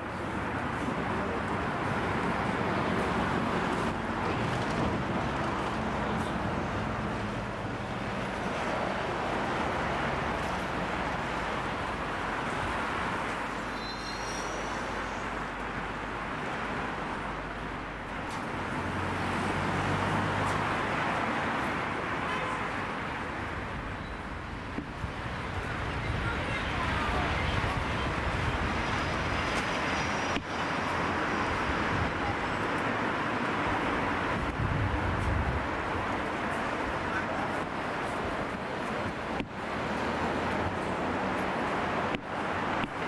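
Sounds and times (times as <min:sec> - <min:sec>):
street traffic: 0:00.0 - 0:43.0.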